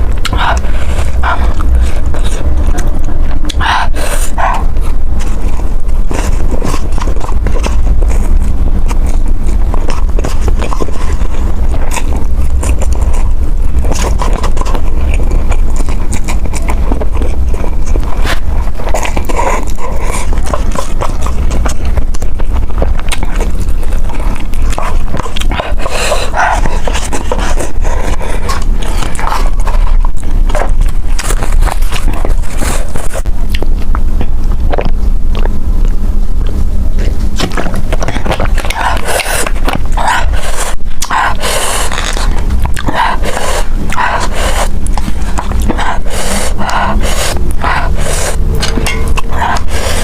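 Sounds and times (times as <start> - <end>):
chewing and slurping noodles: 0.0 - 50.0
steady low rumble: 0.0 - 50.0.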